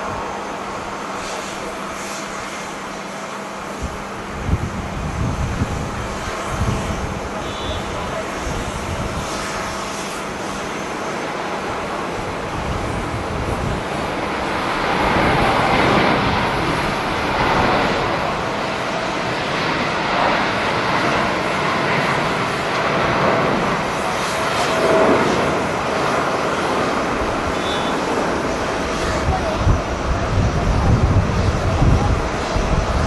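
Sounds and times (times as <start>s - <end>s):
distant jet engines roaring: 0.0s - 33.0s
wind on microphone: 3.6s - 33.0s.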